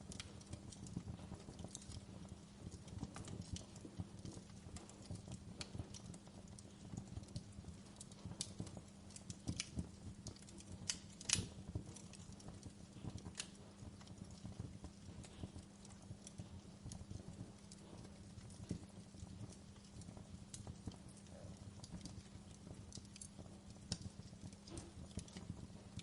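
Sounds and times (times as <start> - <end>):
faint low hum: 0.0 - 26.0
wood fire crackling: 0.0 - 26.0.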